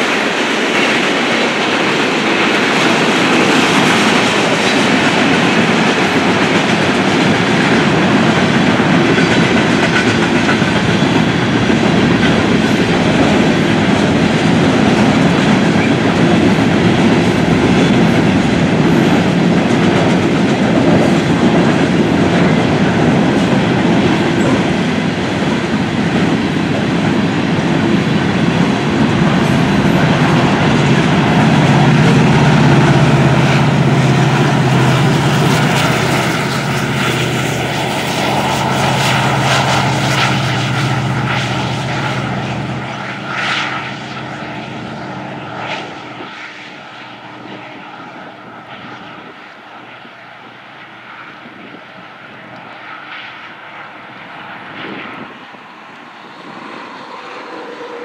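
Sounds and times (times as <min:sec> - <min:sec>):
freight cars rumbling: 0:00.0 - 0:48.6
diesel locomotive engine drone: 0:00.0 - 0:58.0.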